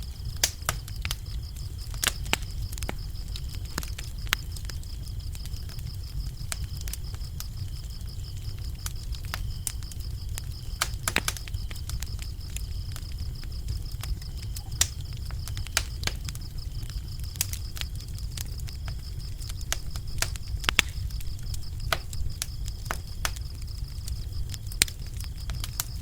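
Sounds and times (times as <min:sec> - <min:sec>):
crickets chirping: 0:00.0 - 0:26.0
wood fire crackling and popping: 0:00.0 - 0:26.0.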